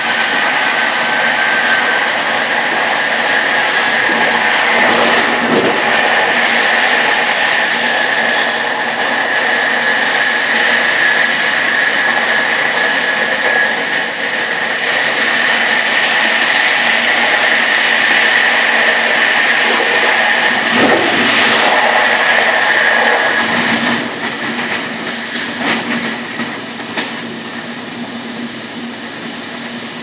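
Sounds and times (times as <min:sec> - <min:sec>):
high whine: 0:00.0 - 0:30.0
train rolling roar: 0:00.0 - 0:30.0.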